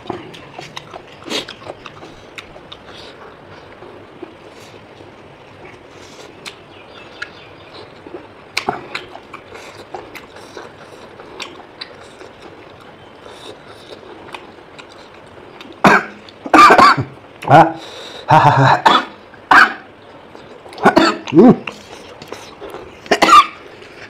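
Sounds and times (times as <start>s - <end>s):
person chewing food: 0.0s - 16.5s, 20.0s - 24.0s.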